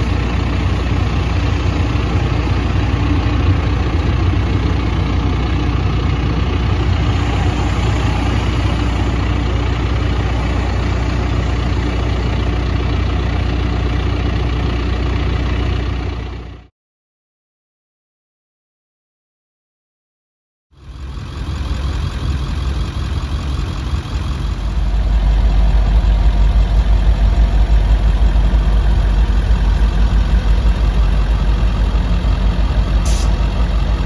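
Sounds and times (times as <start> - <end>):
diesel engine running: 0.0 - 16.7, 20.8 - 34.0.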